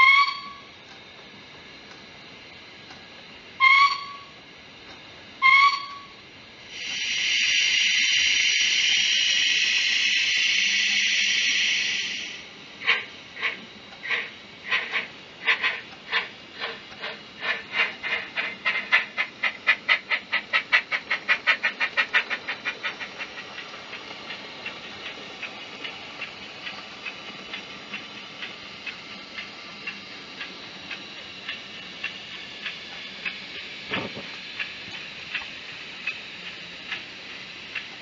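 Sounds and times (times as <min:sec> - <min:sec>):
model steam exhaust chuffs: 0:05.4 - 0:38.0.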